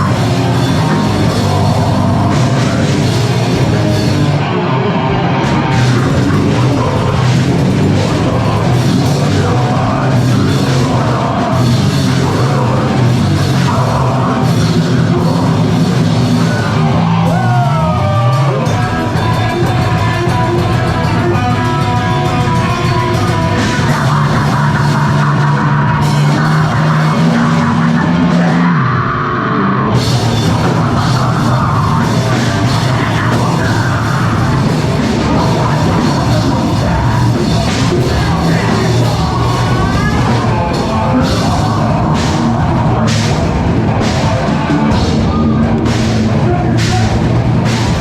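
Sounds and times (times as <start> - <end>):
heavy rock band playing: 0.0 - 48.0.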